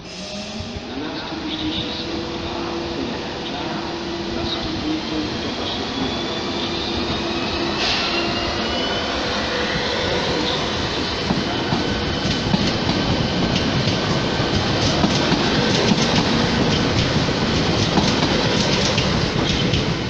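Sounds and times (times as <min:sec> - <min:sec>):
train rolling past: 0:00.0 - 0:20.0.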